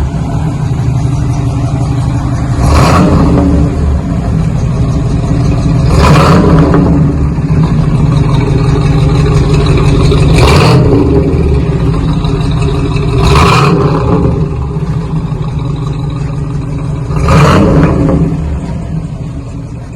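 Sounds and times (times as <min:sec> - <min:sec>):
car engine idling with deep rumble: 0:00.0 - 0:19.9
engine throttle blips: 0:00.0 - 0:19.9.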